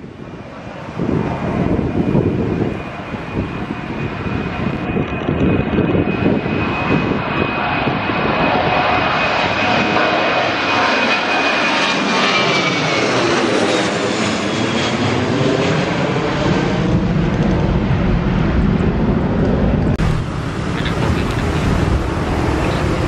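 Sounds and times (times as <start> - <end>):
jet engine high whine: 0.0 - 23.0
jet engines roaring: 0.0 - 23.0.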